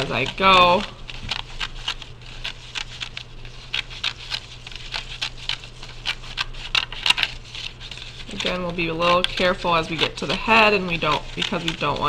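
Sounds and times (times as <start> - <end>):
paper rustling: 0.0 - 12.0
scissors snipping paper: 0.0 - 12.0.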